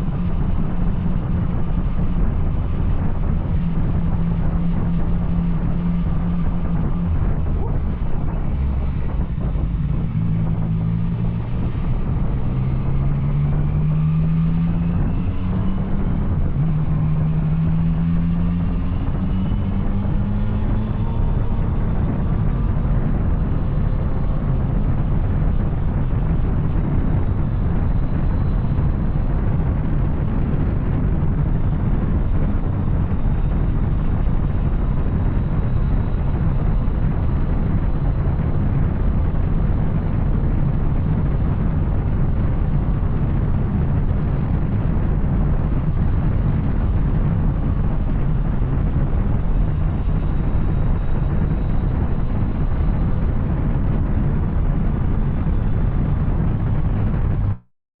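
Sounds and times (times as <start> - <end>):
motorcycle engine riding: 0.0 - 57.6
road and wind noise: 0.0 - 57.7.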